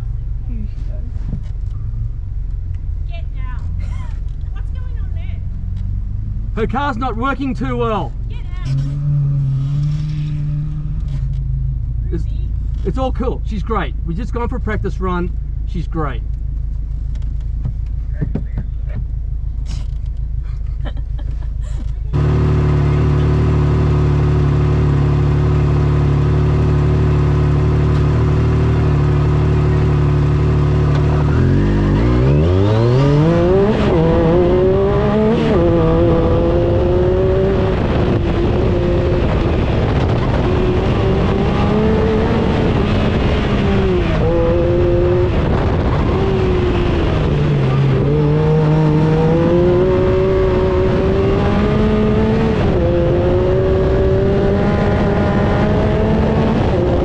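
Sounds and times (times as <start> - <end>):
buggy engine idling and revving: 0.0 - 57.0.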